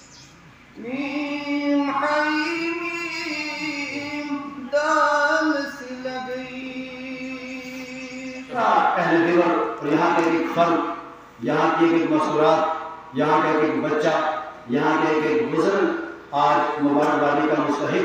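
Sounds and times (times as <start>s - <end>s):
man chanting: 0.8s - 18.0s.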